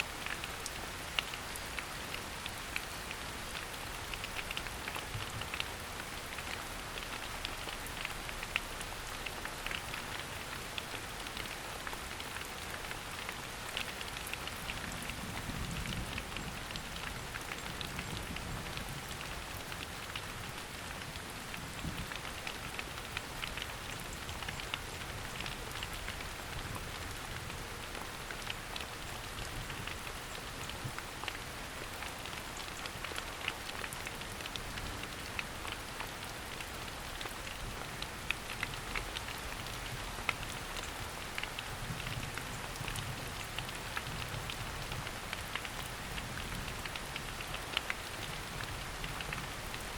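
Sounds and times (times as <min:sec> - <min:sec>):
rain pattering in forest: 0:00.0 - 0:49.9
raindrops tapping close by: 0:00.0 - 0:49.9.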